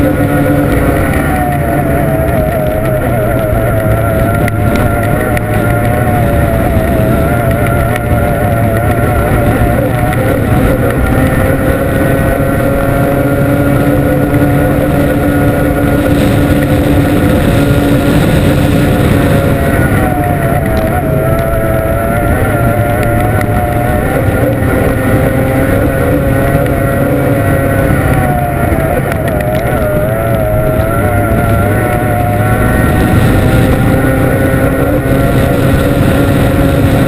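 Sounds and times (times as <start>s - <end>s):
boat outboard engine running hard: 0.0s - 37.0s.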